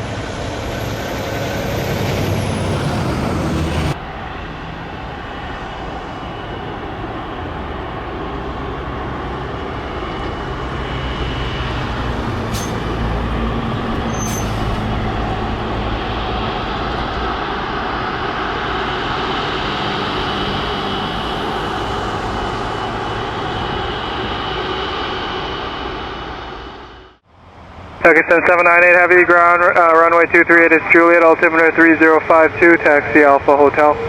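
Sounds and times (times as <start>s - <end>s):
jet engines rumbling with whine: 0.0s - 34.0s.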